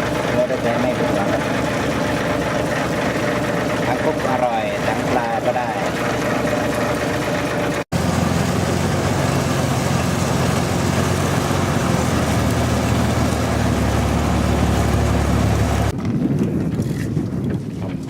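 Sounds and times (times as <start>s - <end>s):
boat engine running: 0.0s - 16.1s.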